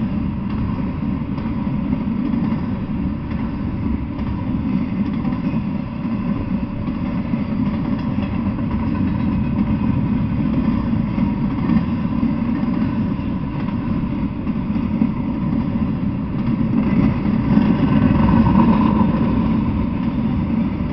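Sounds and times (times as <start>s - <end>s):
freight train wheels rumbling: 0.0s - 20.9s.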